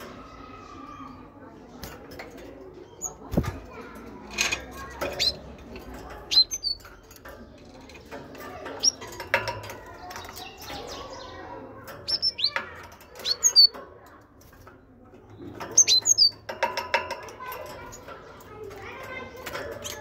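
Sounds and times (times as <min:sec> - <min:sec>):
light clicks in cage: 0:01.7 - 0:20.0.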